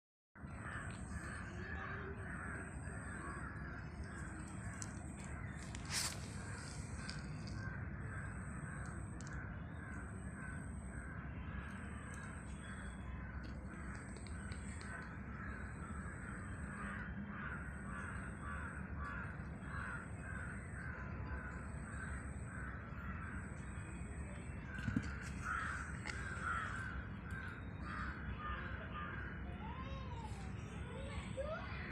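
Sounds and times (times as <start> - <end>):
bird calls: 0.5 - 31.9.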